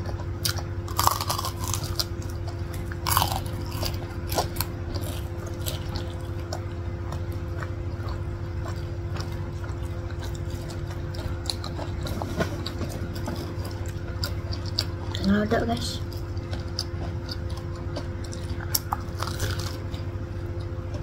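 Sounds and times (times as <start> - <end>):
low steady hum: 0.0 - 21.0
people chewing food: 0.0 - 21.0.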